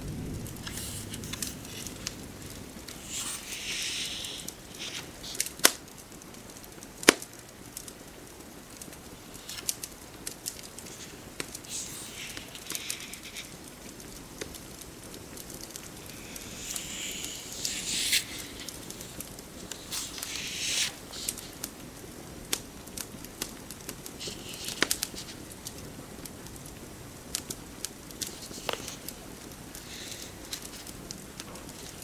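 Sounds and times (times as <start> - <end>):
crackling fireplace: 0.0 - 32.0
rain pattering: 0.0 - 32.0
book pages turning: 0.5 - 5.9, 8.7 - 26.7, 27.4 - 32.0.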